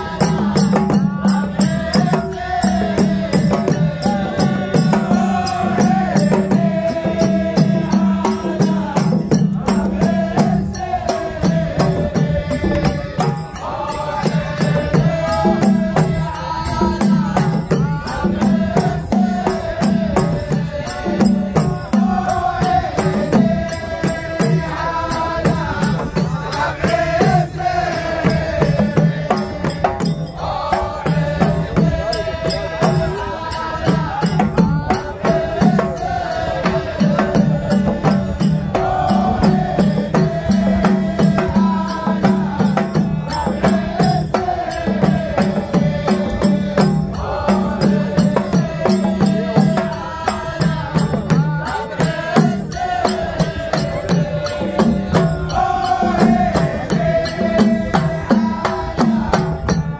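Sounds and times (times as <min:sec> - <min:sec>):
drums beating: 0:00.0 - 0:59.9
men chanting in unison: 0:00.0 - 0:59.9.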